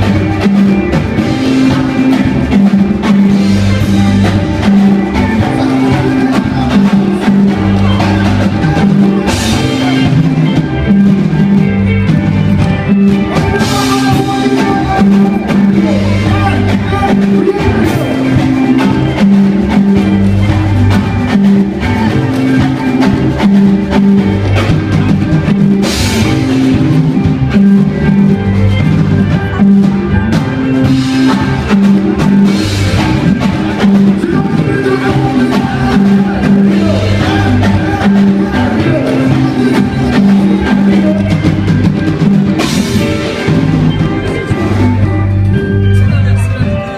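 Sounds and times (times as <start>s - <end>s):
bass line low notes: 0.0s - 46.9s
drum kit: 0.0s - 46.9s
live band playing: 0.0s - 46.9s.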